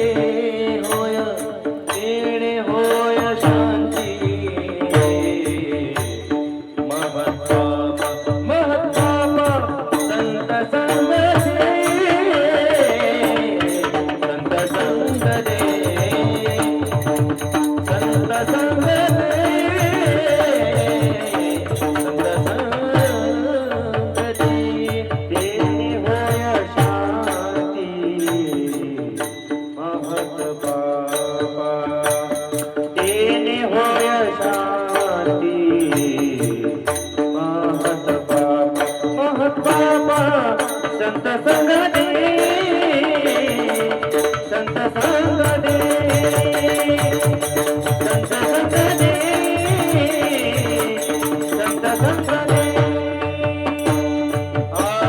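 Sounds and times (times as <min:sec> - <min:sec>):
fast drum rhythm: 0:00.0 - 0:29.4, 0:32.0 - 0:55.0.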